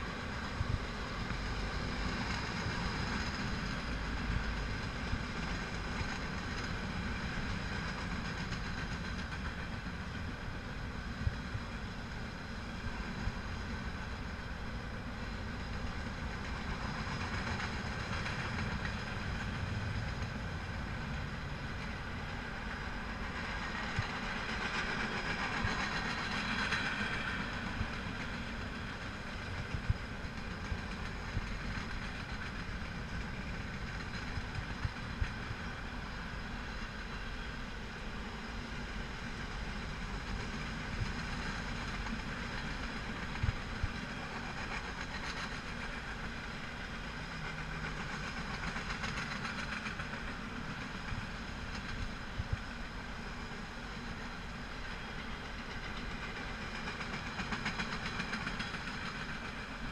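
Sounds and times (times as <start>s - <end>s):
freight train cars rumbling: 0.0s - 59.9s.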